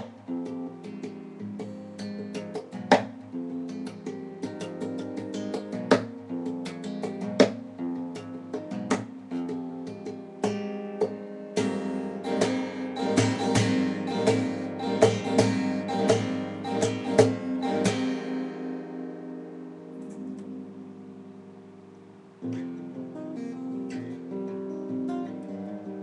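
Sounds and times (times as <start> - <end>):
solo guitar playing: 0.0 - 26.0.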